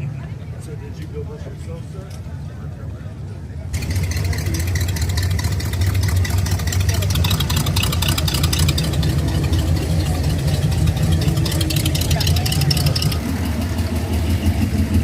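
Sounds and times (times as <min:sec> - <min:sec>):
car engine idling: 0:00.2 - 0:15.0.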